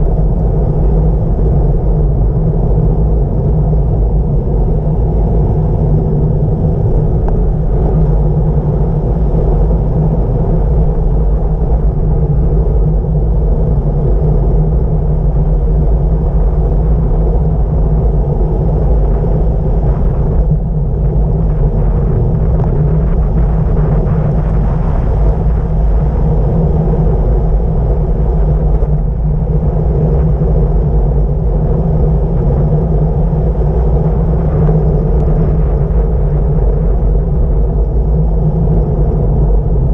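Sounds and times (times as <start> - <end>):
bicycle road noise: 0.0 - 39.9
wind rushing over microphone: 0.0 - 39.9.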